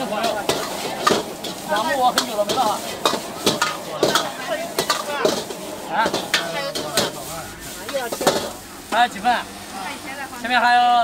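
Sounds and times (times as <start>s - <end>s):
metal ladle scraping a wok: 0.0s - 9.0s
rice sizzling: 0.0s - 11.0s.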